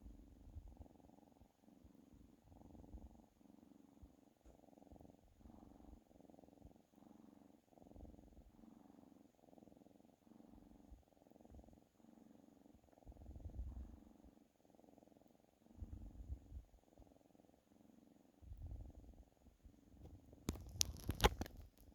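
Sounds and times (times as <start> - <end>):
cat purring: 0.0 - 21.9.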